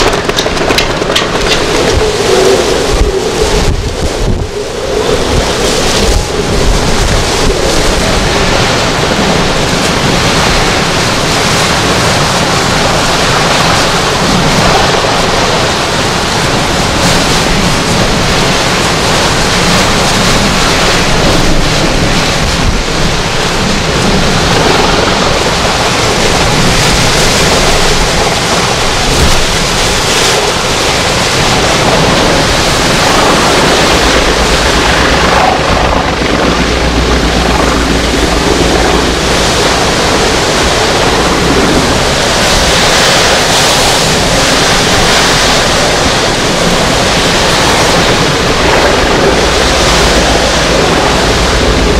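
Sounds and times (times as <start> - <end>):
driving rain: 0.0 - 51.9
strong wind: 0.0 - 51.9
wind buffeting microphone: 0.0 - 51.9.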